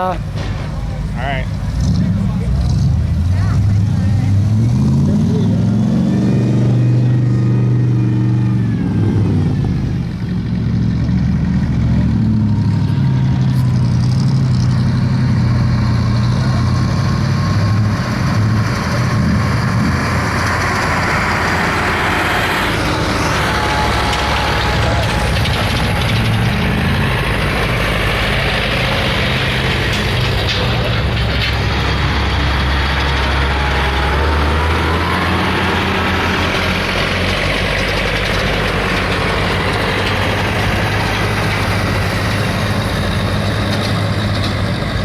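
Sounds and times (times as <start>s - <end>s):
pickup truck engine running: 0.0s - 45.0s.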